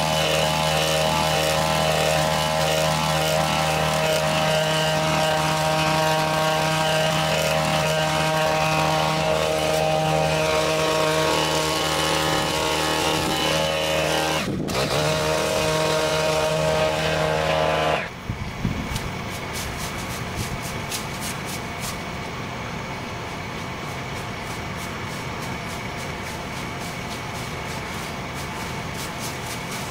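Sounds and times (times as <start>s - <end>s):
hedge trimmer cutting bushes: 0.0s - 18.2s, 18.8s - 22.2s, 23.1s - 29.9s.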